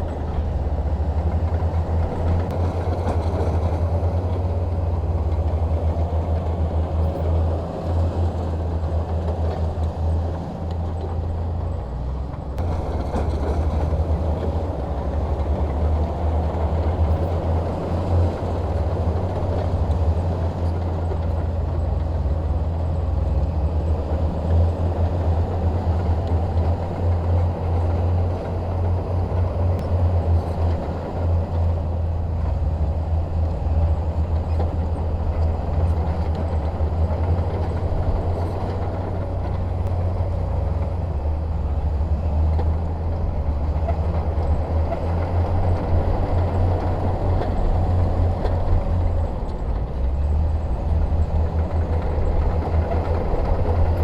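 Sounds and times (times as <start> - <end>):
bulldozer diesel engine rumble: 0.0 - 54.0.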